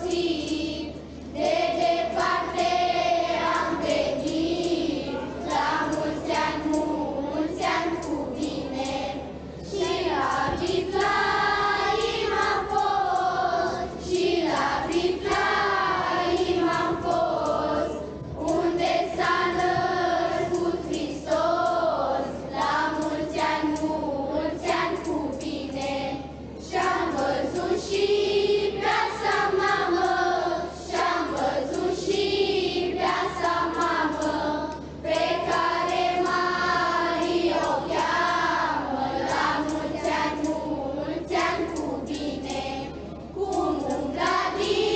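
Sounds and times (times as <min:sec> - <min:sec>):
children's choir singing: 0:00.0 - 0:44.9.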